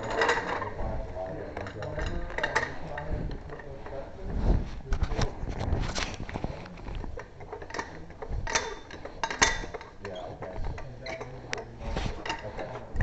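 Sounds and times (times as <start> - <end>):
hand tools clicking and creaking: 0.0 - 4.2, 4.9 - 13.0
faint voices: 0.0 - 13.0.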